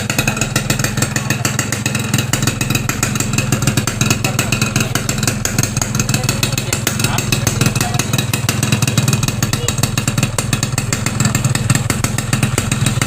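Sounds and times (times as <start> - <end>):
two-stroke motorcycle exhaust beat: 0.0 - 13.0.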